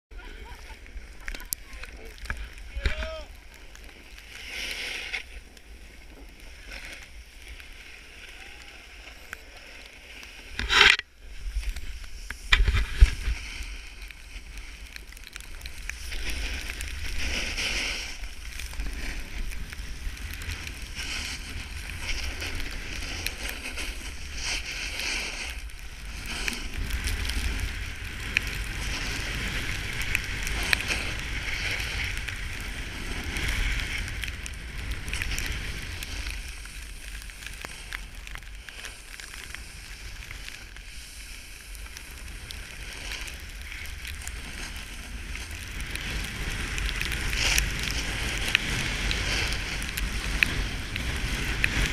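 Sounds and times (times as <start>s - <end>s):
snowboard scraping over snow: 0.2s - 51.9s.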